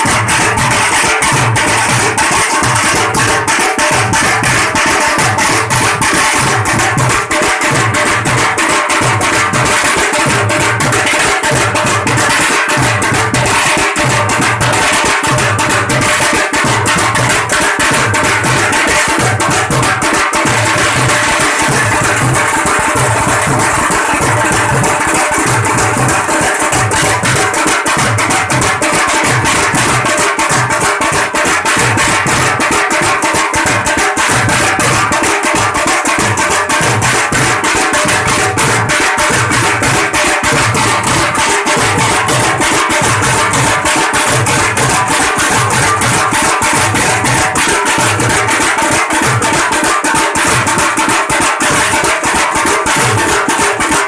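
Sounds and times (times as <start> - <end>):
drum rolls with sticks: 0.0 - 54.0.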